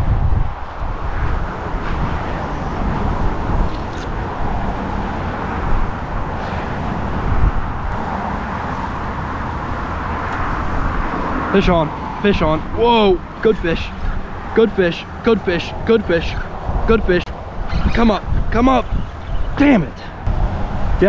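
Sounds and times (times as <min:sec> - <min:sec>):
cars passing on highway: 0:00.0 - 0:21.0.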